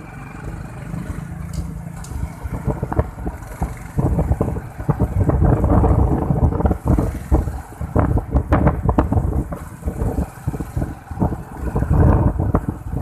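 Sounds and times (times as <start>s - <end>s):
low road and engine rumble: 0.0s - 13.0s
wind buffeting microphone: 1.0s - 13.0s.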